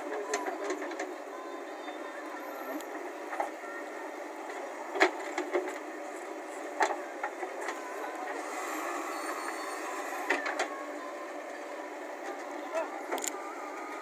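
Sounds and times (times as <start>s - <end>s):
backhoe engine running: 0.0s - 14.0s.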